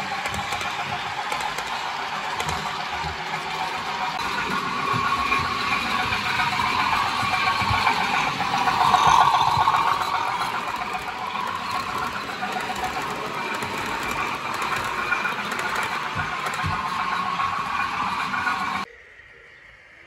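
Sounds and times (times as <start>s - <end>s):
model train wheels squealing and rattling: 0.0s - 18.9s.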